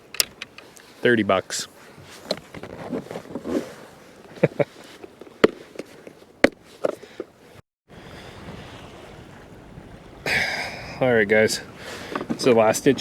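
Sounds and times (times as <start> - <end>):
wind and water noise: 0.0 - 13.0.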